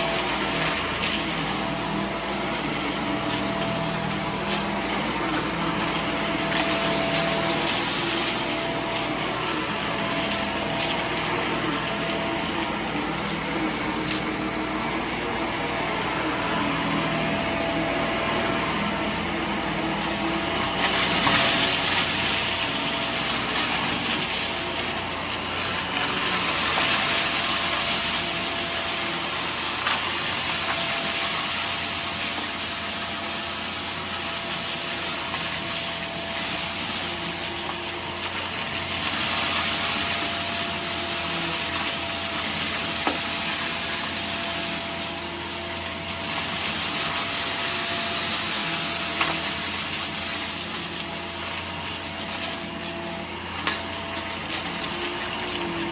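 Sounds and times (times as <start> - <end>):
vacuum cleaner whine: 0.0 - 55.9.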